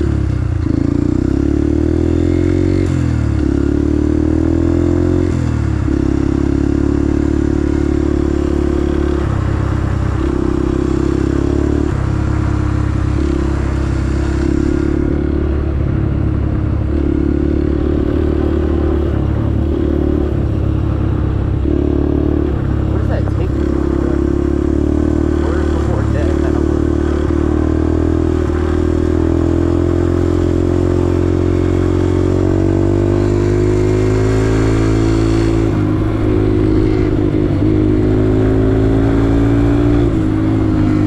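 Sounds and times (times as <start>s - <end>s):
vehicle engine running: 5.0s - 41.0s.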